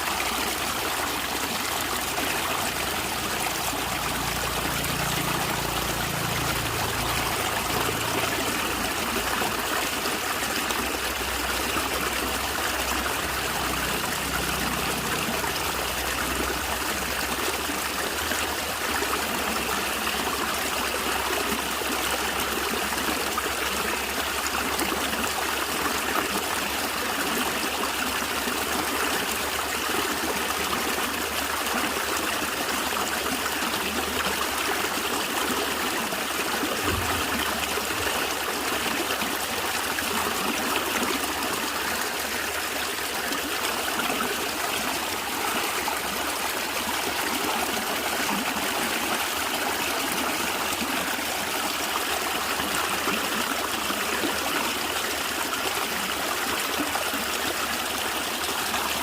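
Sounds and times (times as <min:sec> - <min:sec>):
stream running and gurgling: 0:00.0 - 0:59.0.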